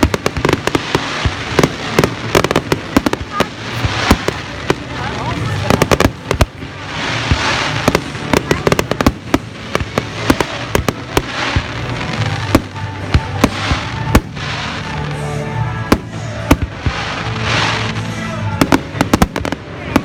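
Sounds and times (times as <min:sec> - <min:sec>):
background music: 0:00.0 - 0:20.0
fireworks bangs and cracks: 0:00.0 - 0:20.0
fireworks hissing crackle: 0:00.0 - 0:20.0.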